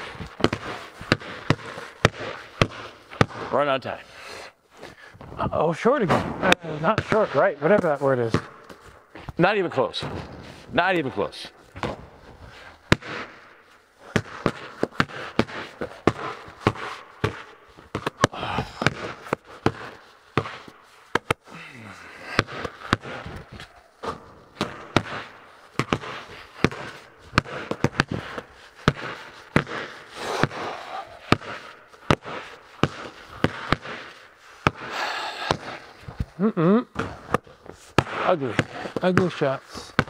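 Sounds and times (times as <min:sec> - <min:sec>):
balls banging off backboard and rim: 0:00.0 - 0:03.6, 0:05.2 - 0:11.2, 0:11.8 - 0:12.2, 0:12.9 - 0:13.4, 0:14.1 - 0:21.4, 0:22.3 - 0:30.7, 0:31.3 - 0:34.9, 0:36.9 - 0:40.0
basketballs bouncing on concrete: 0:00.0 - 0:40.0.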